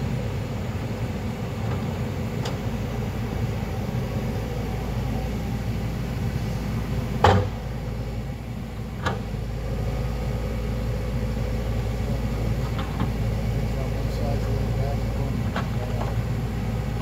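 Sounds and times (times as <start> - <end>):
diesel engines running: 0.0 - 17.0.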